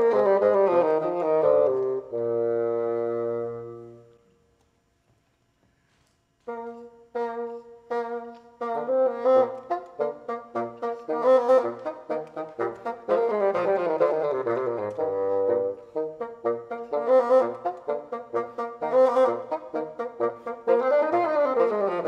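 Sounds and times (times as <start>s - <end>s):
bassoon duet: 0.0s - 4.2s, 6.4s - 22.0s.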